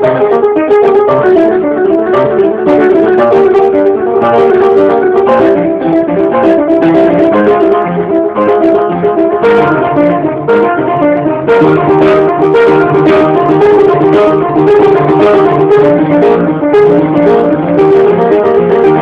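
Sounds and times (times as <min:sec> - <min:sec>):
piano: 0:00.0 - 0:19.0
plucked guitar: 0:00.0 - 0:19.0.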